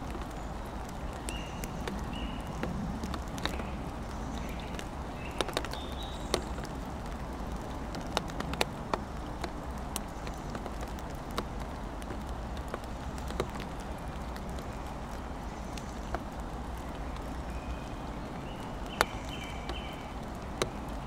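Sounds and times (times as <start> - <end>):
raindrops knocking on wooden boards: 0.0 - 21.0
steady hiss of rain: 0.0 - 21.0.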